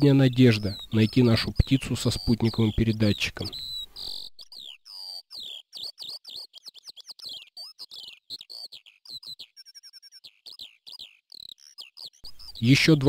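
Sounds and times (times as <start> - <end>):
bird rapid trill: 0.0 - 13.0
small birds chirping: 0.0 - 13.0.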